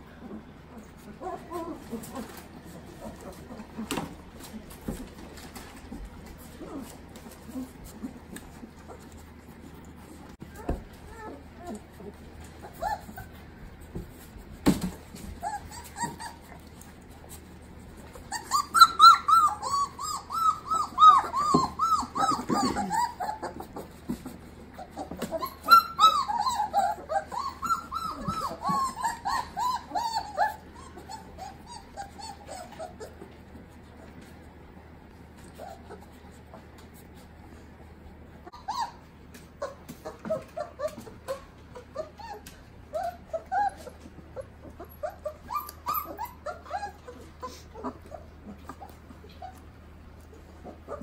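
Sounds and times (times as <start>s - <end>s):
puppies squealing and whining: 0.0s - 51.0s.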